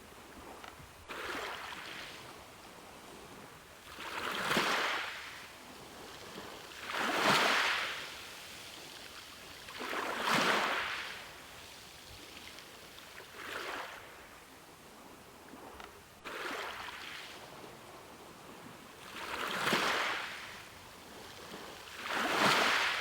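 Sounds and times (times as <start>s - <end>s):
ocean waves washing ashore: 0.0s - 23.0s.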